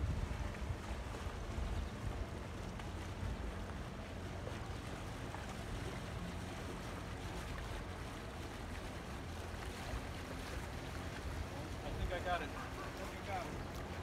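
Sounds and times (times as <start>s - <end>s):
wind rumble on microphone: 0.0s - 12.1s
small lake waves: 0.0s - 14.0s.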